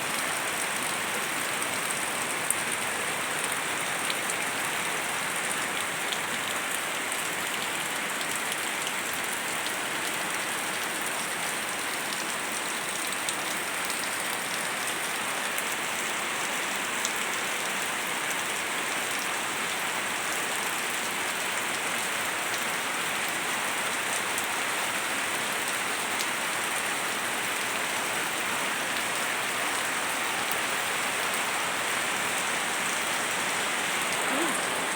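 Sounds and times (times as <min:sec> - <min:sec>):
steady rain pattering: 0:00.0 - 0:34.9.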